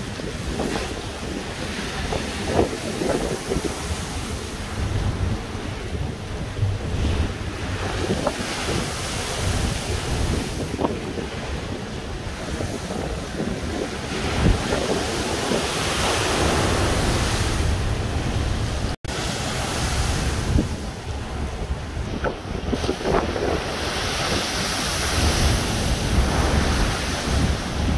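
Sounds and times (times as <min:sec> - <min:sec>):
waves breaking: 0:00.0 - 0:27.9
wind buffeting the microphone: 0:00.0 - 0:27.9.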